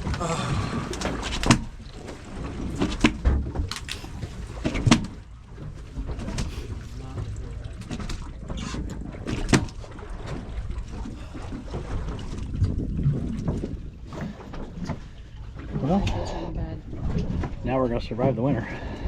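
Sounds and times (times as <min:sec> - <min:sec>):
boat engine low rumble: 0:00.0 - 0:19.0
wind: 0:00.0 - 0:19.0.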